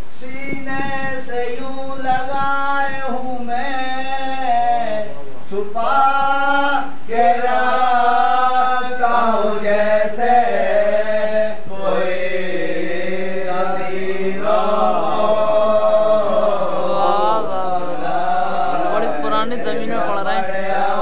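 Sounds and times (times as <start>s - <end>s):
men chanting: 0.2s - 21.0s.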